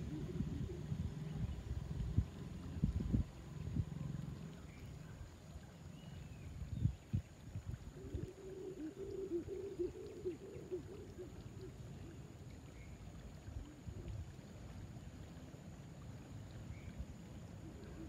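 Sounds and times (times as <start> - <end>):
low wavering calls: 0.0 - 7.1, 7.7 - 14.8, 16.7 - 18.0.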